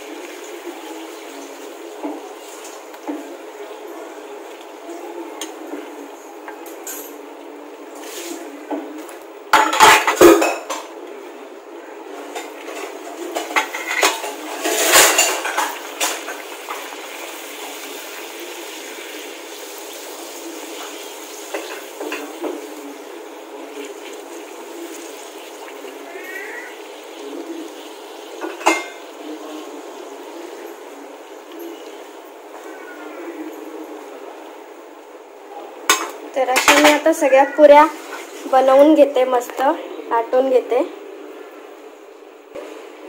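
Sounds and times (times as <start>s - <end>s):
hot oil sizzling: 0.0s - 10.8s, 12.1s - 39.4s.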